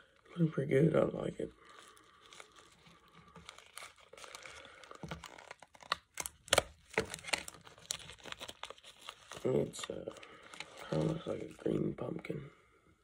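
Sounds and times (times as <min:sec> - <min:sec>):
plastic packaging crinkling: 0:01.6 - 0:12.2.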